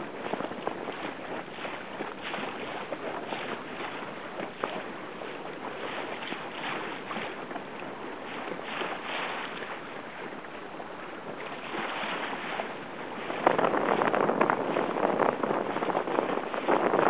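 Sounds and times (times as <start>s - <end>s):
rushing wind and water: 0.0s - 17.0s
wind buffeting microphone: 0.0s - 17.0s.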